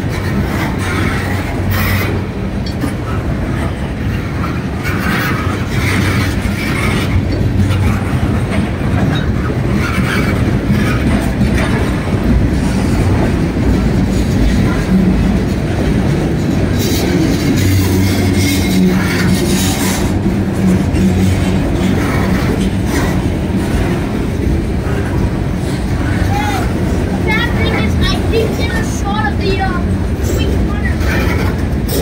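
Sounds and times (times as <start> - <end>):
freight train cars rolling past: 0.0 - 32.0.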